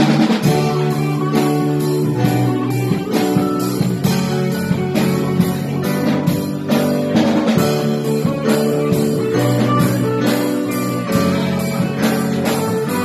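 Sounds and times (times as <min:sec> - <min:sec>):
drum kit steady beat: 0:00.0 - 0:13.0
electric guitar: 0:00.0 - 0:13.0
live rock band playing: 0:00.0 - 0:13.0.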